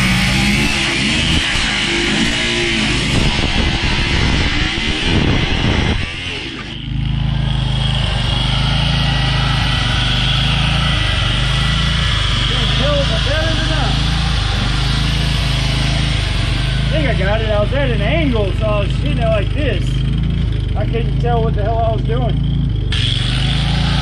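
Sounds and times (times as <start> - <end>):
steady motor hum: 0.0 - 24.0.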